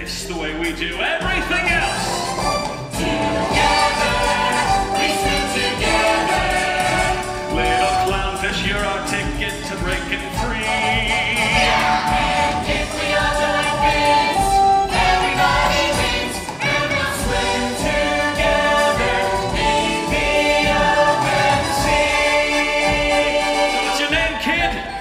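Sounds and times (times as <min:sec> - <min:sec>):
ensemble singing show tune: 0:00.0 - 0:25.0.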